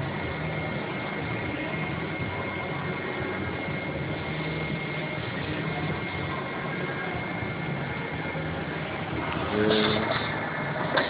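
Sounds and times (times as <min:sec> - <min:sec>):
machining centre humming: 0:00.0 - 0:11.0.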